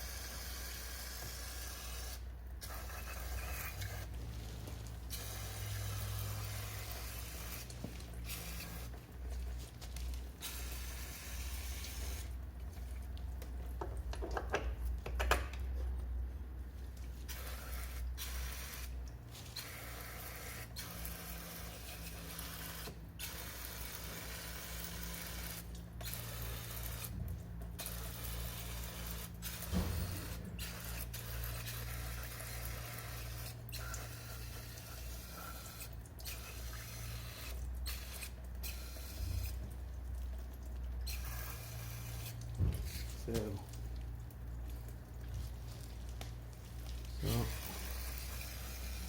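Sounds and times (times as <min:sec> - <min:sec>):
liquid spraying: 0:00.0 - 0:13.6, 0:16.9 - 0:49.0.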